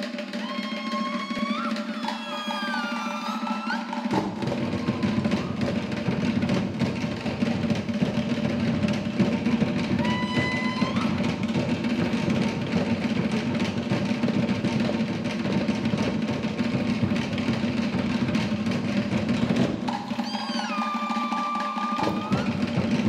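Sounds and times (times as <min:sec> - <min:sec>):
fast dance drumming: 0:00.0 - 0:23.0.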